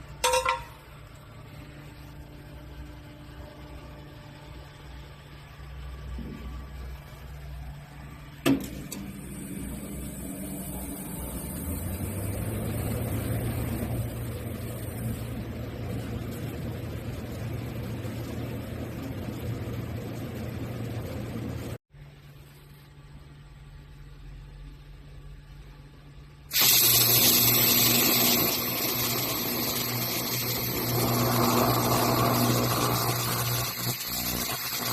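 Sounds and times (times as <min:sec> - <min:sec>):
laser machine low hum: 0:01.0 - 0:21.8, 0:23.3 - 0:34.9.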